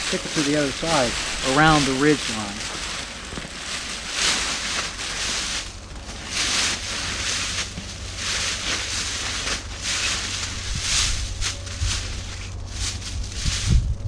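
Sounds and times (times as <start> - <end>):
plastic sheet rustling and crinkling: 0.0 - 14.0.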